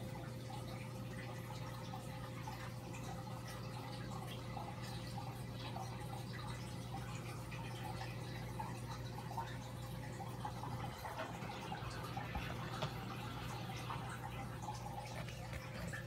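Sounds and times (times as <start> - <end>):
aquarium water trickling and bubbling: 0.0 - 16.0
filter pump hum: 0.0 - 16.0.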